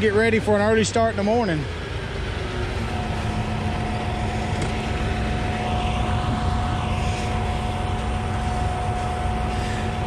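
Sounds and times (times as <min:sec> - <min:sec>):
high steady whine: 0:00.0 - 0:10.0
pump truck engine rumble: 0:00.0 - 0:10.0.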